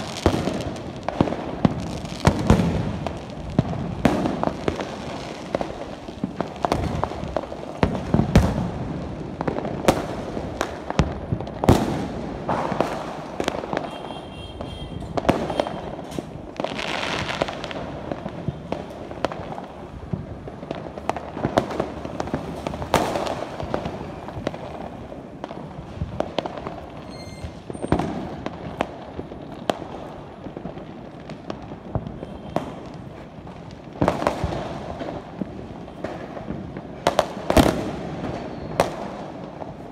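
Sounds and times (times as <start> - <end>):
firecrackers banging and popping: 0.0 - 39.9.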